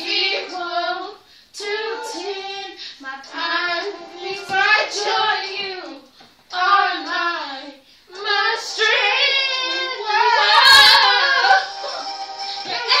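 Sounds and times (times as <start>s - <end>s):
girls singing: 0.0s - 13.0s.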